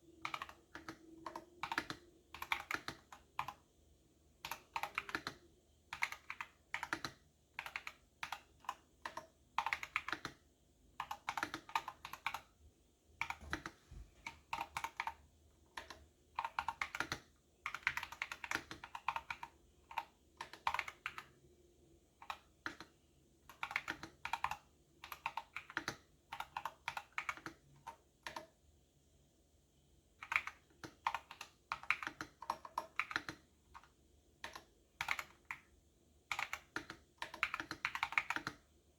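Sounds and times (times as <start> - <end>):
typing on computer keyboard: 0.1 - 3.7, 4.4 - 12.6, 13.2 - 21.5, 22.1 - 28.6, 30.2 - 38.7.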